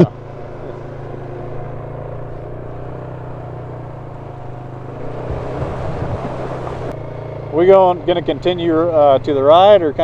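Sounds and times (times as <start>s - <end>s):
off-road vehicle engine humming: 0.0s - 10.0s.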